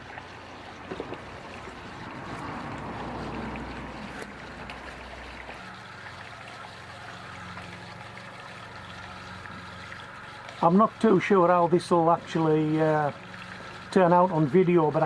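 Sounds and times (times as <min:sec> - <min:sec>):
hose water splashing into plastic box: 0:00.0 - 0:15.0.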